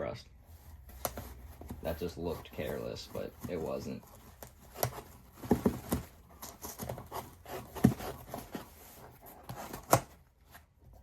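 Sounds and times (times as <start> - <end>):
cardboard rustling: 0.5 - 11.0.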